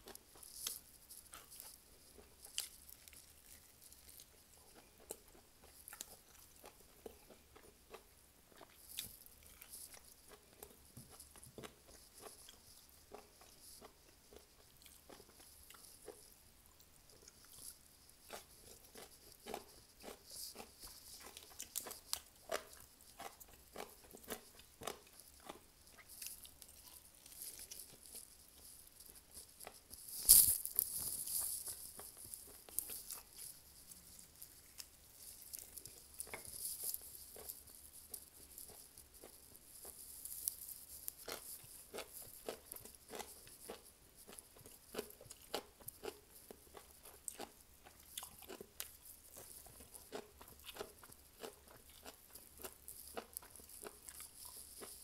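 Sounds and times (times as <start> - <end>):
person chewing fried chicken: 0.0 - 55.0.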